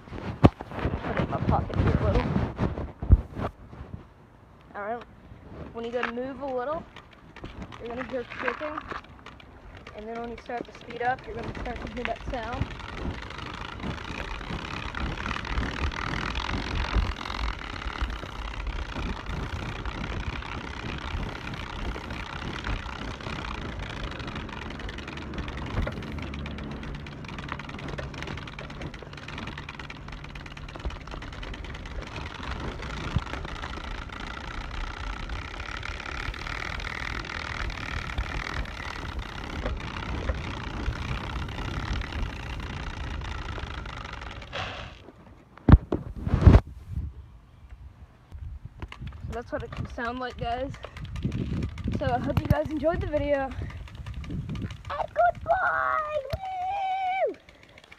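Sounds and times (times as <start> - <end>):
card clicking against bicycle spokes: 5.9 - 46.0, 48.7 - 55.5, 56.1 - 57.9.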